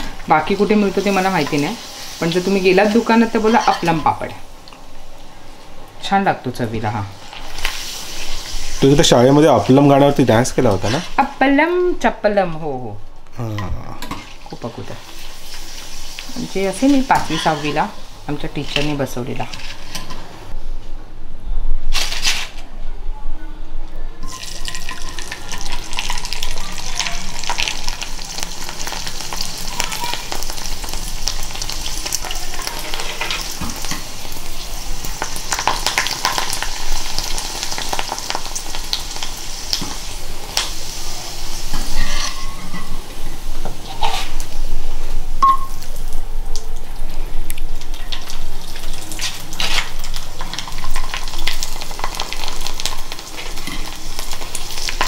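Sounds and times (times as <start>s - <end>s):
hot oil sizzling: 0.0s - 12.1s, 14.0s - 20.6s, 24.2s - 55.0s.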